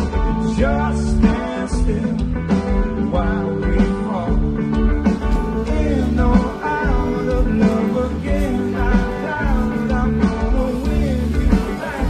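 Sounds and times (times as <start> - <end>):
song with band: 0.0 - 12.0.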